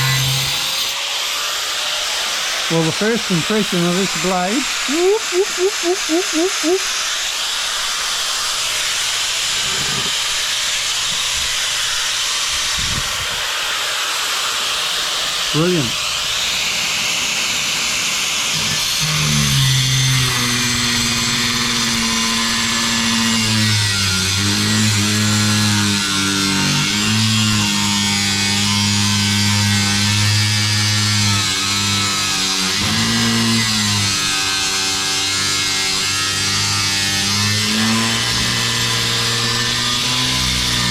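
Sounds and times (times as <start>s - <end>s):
angle grinder cutting tile: 0.0s - 40.9s.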